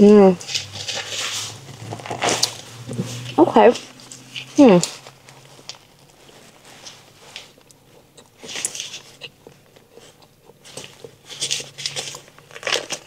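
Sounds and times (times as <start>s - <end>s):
crunchy chewing: 0.4s - 13.0s.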